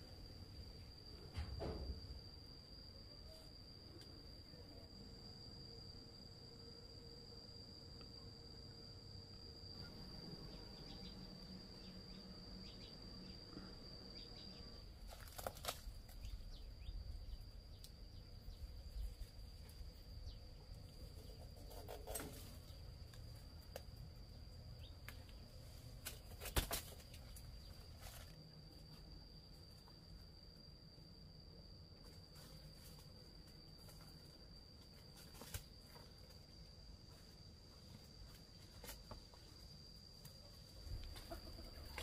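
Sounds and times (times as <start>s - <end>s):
insect trill: 0.0s - 42.0s
outdoor ambience: 0.0s - 42.0s.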